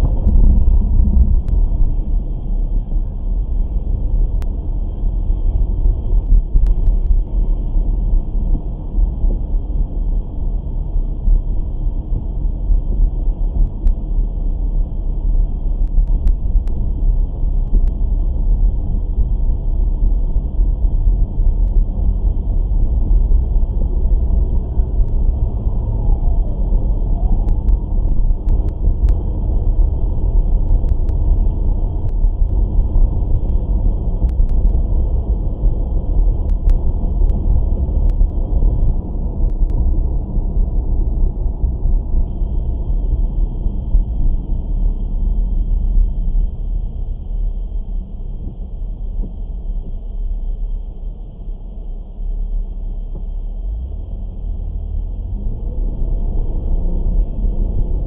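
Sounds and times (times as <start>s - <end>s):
car engine low rumble: 0.0s - 58.0s.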